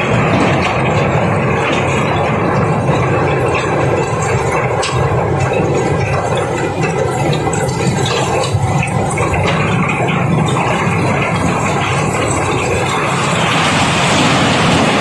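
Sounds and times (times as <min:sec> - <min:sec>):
cobblestones pouring and rattling: 0:00.0 - 0:15.0
diesel engine running: 0:00.0 - 0:15.0.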